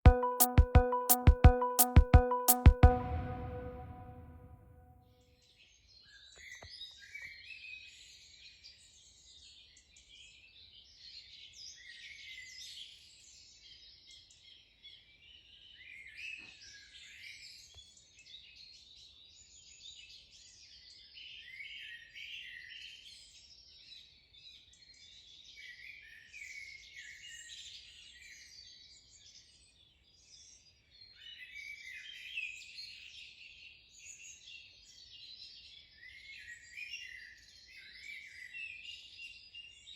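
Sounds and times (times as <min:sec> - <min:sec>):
many small birds singing: 0:05.9 - 0:39.9.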